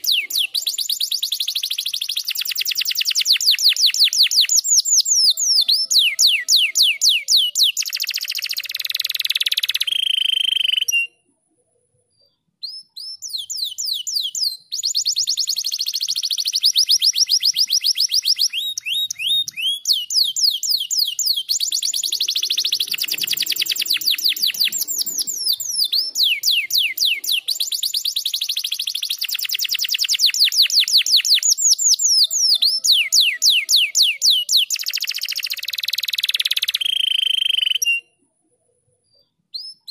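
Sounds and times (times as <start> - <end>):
canary singing trills: 0.0 - 11.3, 12.2 - 38.2.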